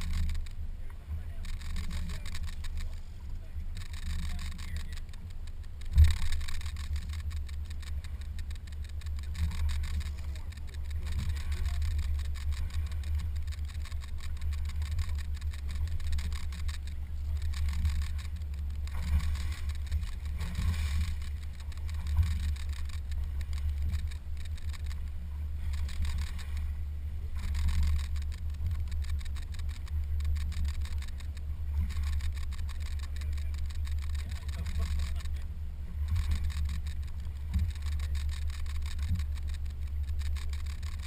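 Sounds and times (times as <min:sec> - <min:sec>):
boat motor rumble: 0:00.0 - 0:41.0.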